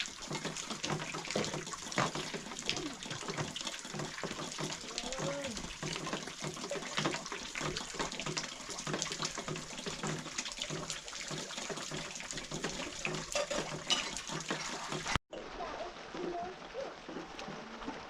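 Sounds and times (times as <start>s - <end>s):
water running and splashing: 0.0s - 18.0s.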